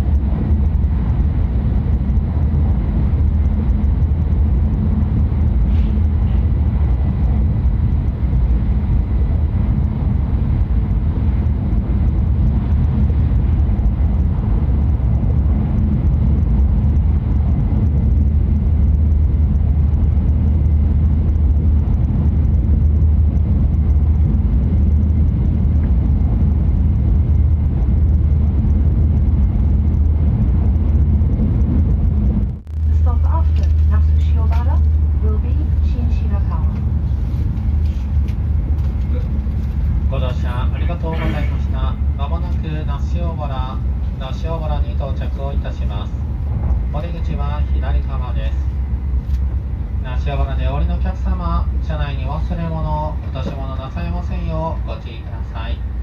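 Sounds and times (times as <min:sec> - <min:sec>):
train low rumble from inside: 0:00.0 - 0:56.0.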